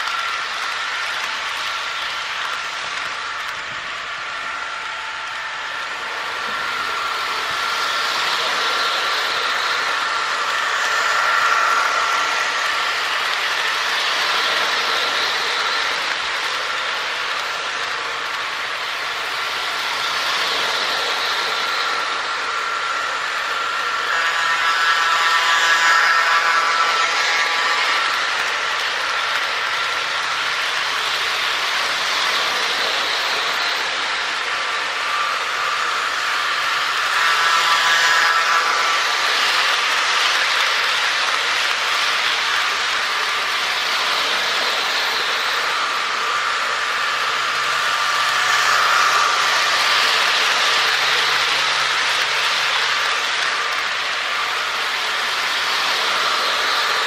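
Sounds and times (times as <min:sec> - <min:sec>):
model train wheels rolling: 0:00.0 - 0:57.0.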